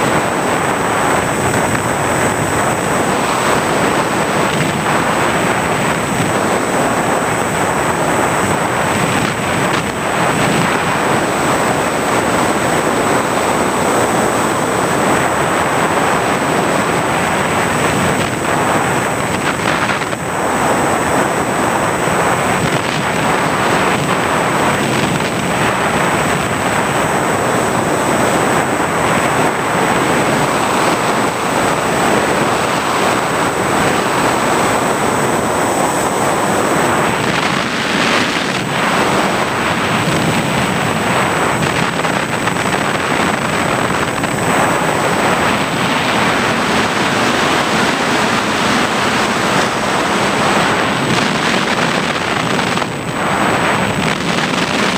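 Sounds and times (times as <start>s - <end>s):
motor and propeller noise: 0.0s - 54.9s
wind rushing on microphone: 0.0s - 54.9s.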